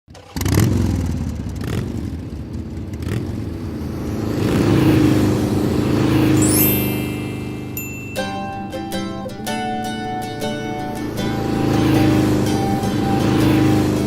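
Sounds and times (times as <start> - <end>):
motorcycle engine revving: 0.1 - 8.1, 10.6 - 14.0.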